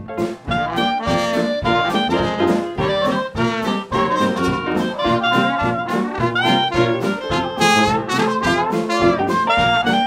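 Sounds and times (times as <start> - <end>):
brass-led jazz music: 0.0 - 10.0.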